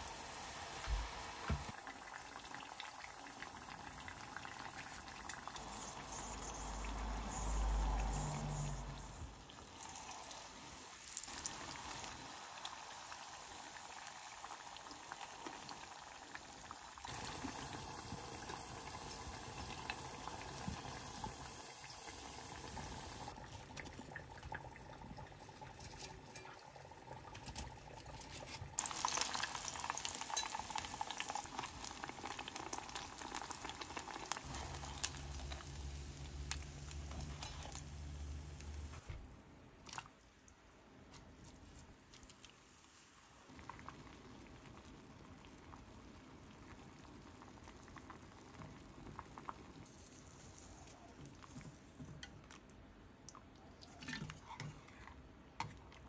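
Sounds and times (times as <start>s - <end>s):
food deep-frying in oil: 0.0s - 39.2s, 42.0s - 52.6s.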